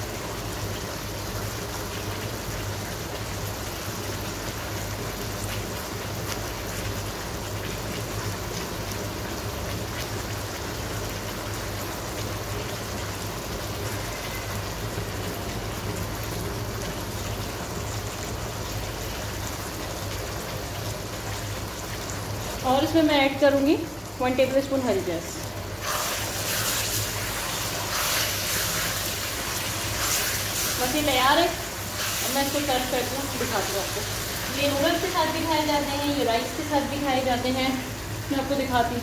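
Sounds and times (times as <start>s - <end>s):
chicken sizzling in a wok: 0.0s - 39.0s.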